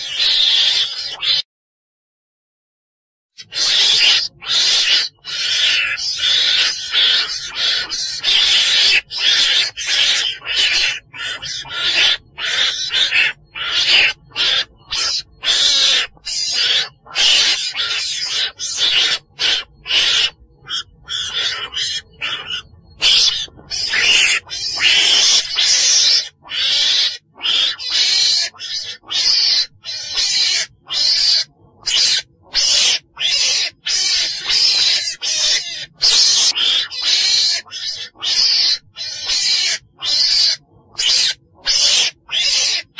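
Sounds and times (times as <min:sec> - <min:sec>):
harsh raspy animal calls: 0:00.0 - 0:01.5, 0:03.4 - 0:42.9.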